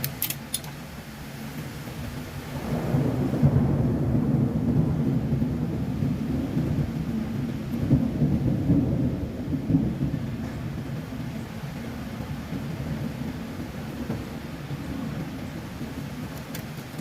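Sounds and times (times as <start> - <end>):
rain hissing: 0.0 - 17.0
thunder rumbling: 0.8 - 17.0.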